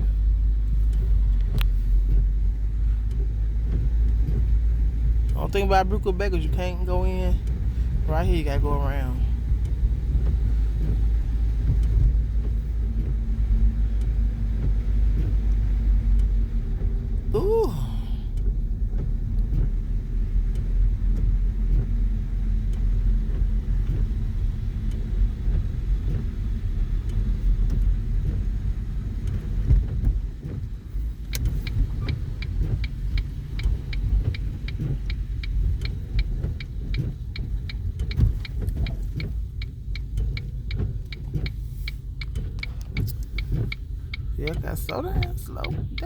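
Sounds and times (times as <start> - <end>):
car engine and tyres rumbling: 0.0 - 46.0
turn signal ticking: 0.0 - 46.0.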